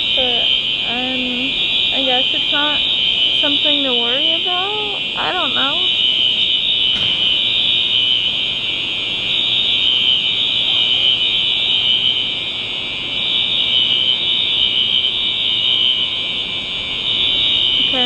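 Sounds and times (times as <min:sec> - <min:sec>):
fire alarm tone: 0:00.0 - 0:18.0.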